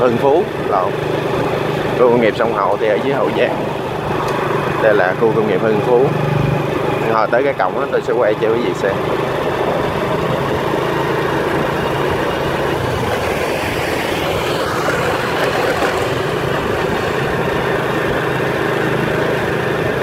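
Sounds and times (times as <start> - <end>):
motorbike engine hum: 0.0 - 20.0
wind and road noise: 0.0 - 20.0.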